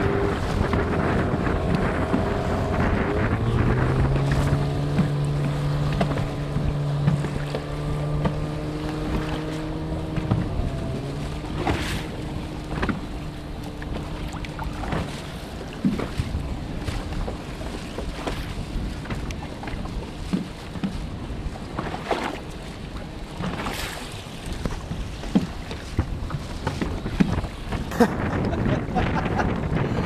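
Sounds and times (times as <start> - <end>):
outboard motor running: 0.0 - 30.0
wind buffeting microphone: 0.0 - 30.0.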